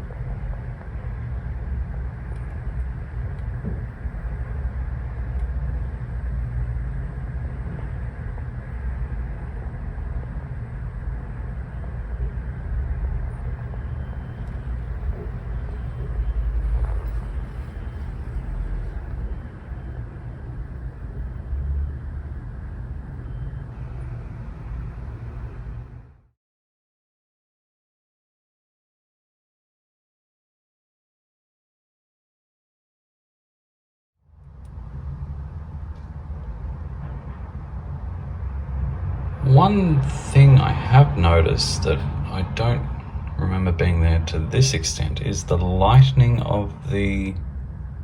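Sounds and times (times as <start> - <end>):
low background rumble: 0.0 - 26.2, 34.4 - 48.0.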